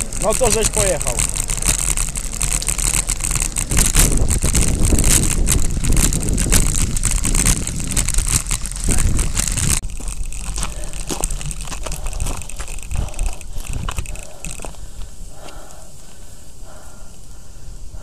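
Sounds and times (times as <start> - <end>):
bicycle rolling over gravel: 0.0 - 18.0
wind rumble on microphone: 0.0 - 18.0.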